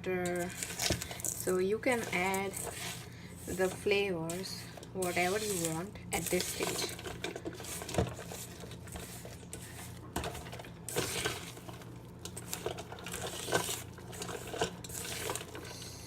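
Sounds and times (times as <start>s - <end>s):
utensil scraping a bowl: 0.0s - 16.0s.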